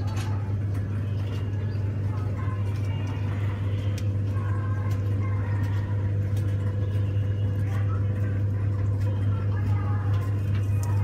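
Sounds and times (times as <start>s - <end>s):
ferris wheel machinery humming: 0.0s - 11.0s.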